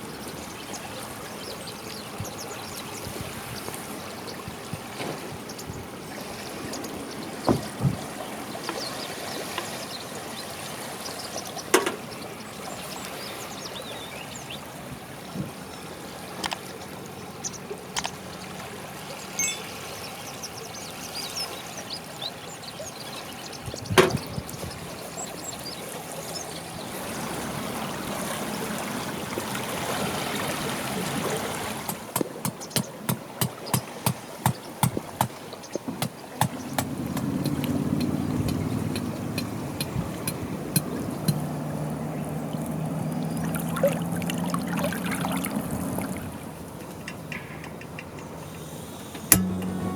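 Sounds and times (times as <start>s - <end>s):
small waves lapping: 0.0s - 49.9s.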